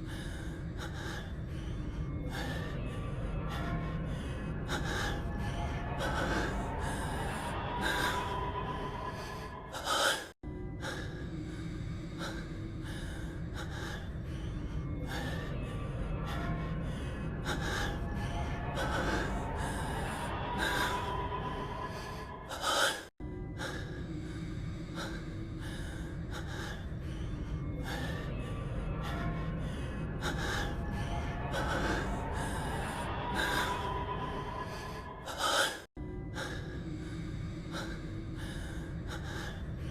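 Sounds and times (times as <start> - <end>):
low music: 0.0 - 39.9.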